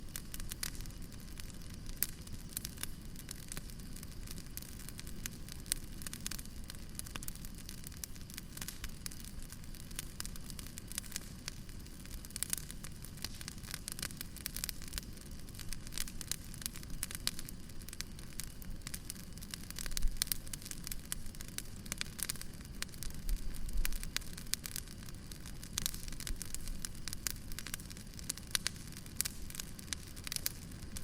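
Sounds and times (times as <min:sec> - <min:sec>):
loud fire pops: 0:00.0 - 0:31.0
low fire rumble: 0:00.0 - 0:31.0
wood fire crackling: 0:00.0 - 0:31.0.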